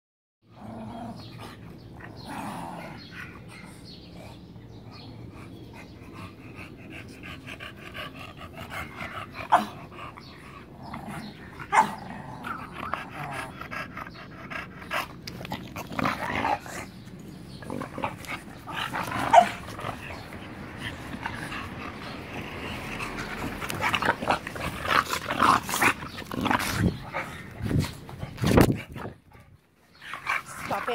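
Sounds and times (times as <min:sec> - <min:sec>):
small dogs growling: 0:00.4 - 0:30.9.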